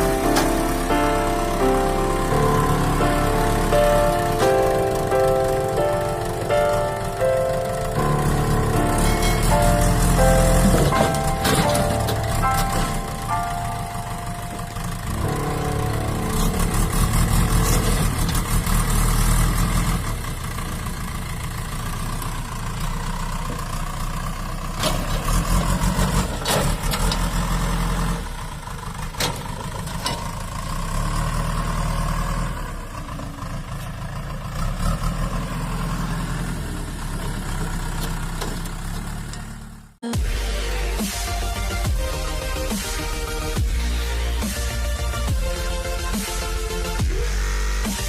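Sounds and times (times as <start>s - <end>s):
heavy vehicle engine idling: 0.0s - 48.0s.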